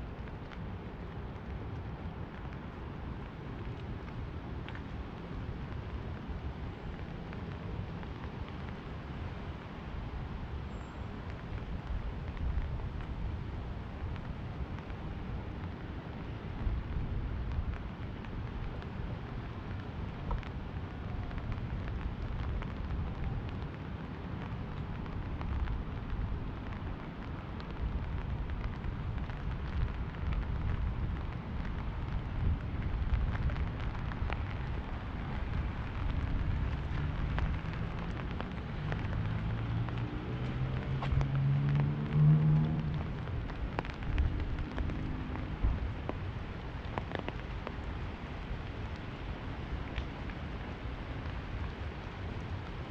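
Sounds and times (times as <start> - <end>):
rain on an umbrella: 0.0 - 52.9.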